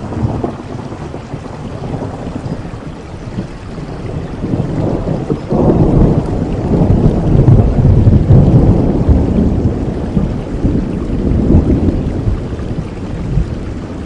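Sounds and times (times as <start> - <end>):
steady rain: 0.0 - 14.0
thunder rolling: 0.0 - 14.0.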